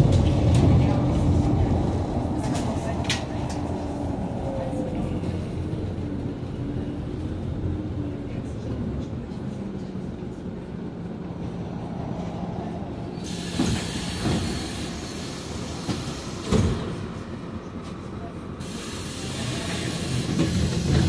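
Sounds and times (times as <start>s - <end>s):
bus engine drone: 0.0s - 21.0s
road rumble: 0.0s - 21.0s.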